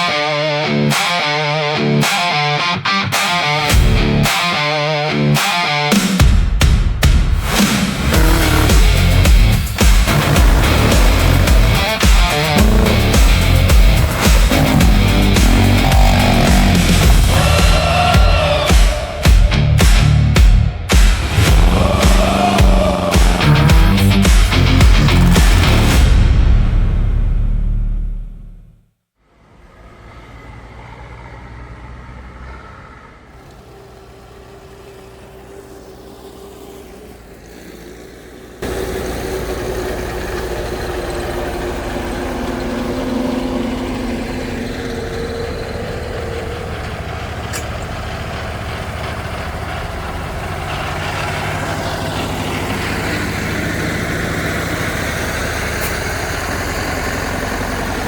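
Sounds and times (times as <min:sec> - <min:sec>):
tractor engines revving: 0:07.3 - 0:26.5, 0:29.4 - 0:58.0.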